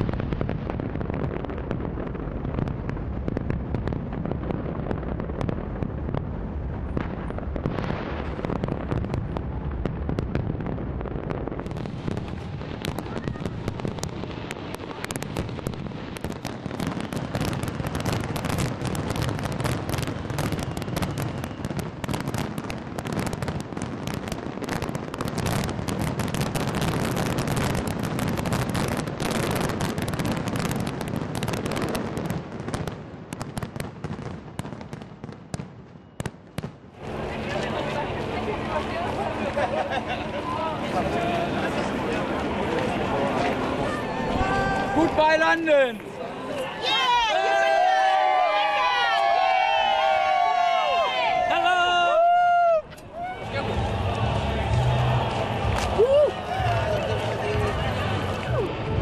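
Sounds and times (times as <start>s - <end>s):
fireworks booming: 0.0s - 46.2s, 46.9s - 59.0s
fireworks crackling: 0.0s - 59.0s.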